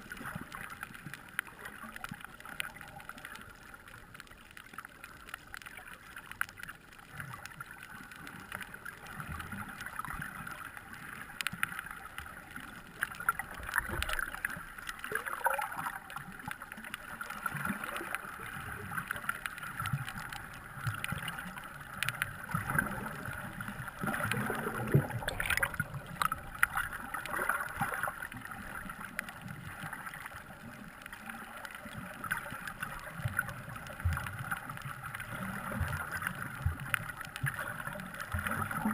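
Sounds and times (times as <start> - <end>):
water moving around camera: 0.0 - 38.9.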